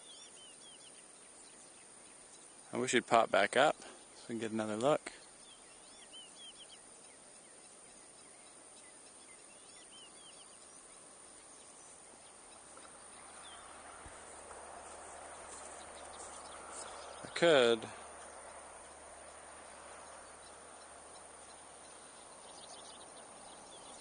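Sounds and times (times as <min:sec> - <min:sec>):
faint outdoor background noise: 0:00.0 - 0:24.0
songbird chirping: 0:00.0 - 0:24.0.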